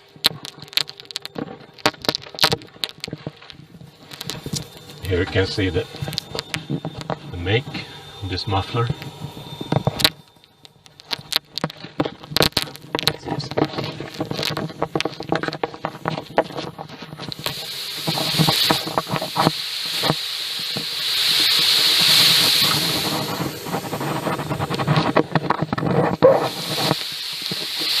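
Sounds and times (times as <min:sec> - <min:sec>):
air hissing from exhaust leak: 0:03.2 - 0:13.0, 0:13.6 - 0:28.0.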